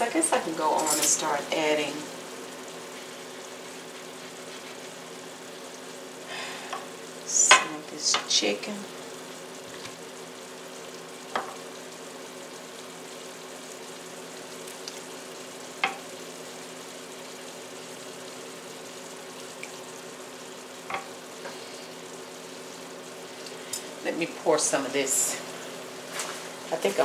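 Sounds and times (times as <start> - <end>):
vegetables sizzling in a skillet: 0.0 - 27.0.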